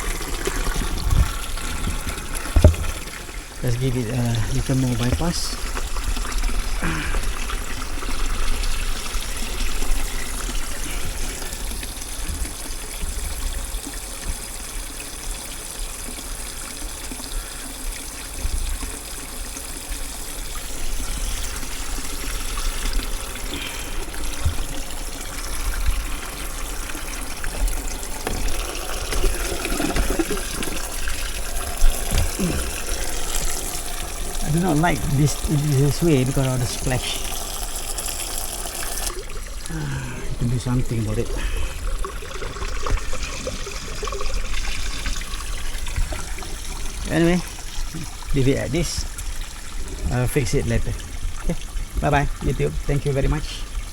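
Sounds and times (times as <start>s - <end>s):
water splashing and trickling: 0.0s - 53.9s.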